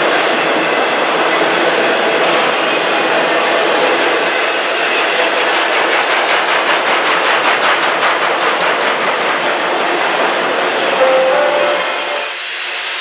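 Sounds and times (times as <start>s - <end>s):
clickety-clack of wheels on rail joints: 0.0s - 11.0s
train wheel-on-rail noise: 0.0s - 13.0s.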